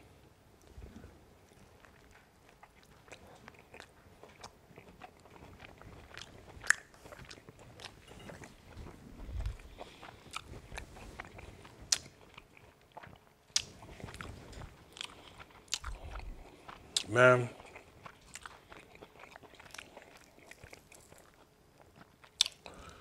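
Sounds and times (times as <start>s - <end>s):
man chewing meat: 0.6s - 23.0s.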